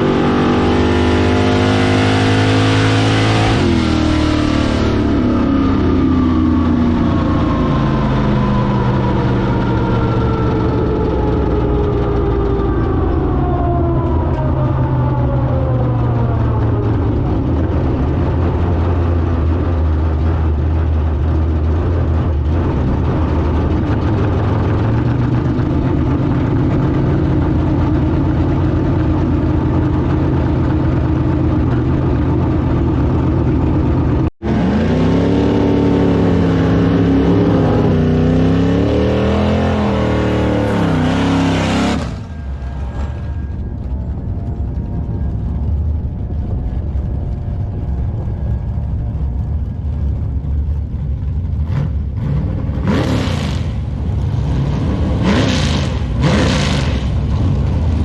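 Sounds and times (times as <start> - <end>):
drag car engine running: 0.0 - 58.0
engine revving: 0.0 - 58.0.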